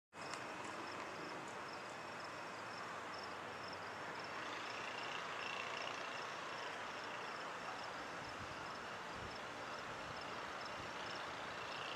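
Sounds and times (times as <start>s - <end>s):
outdoor background noise: 0.1s - 11.9s.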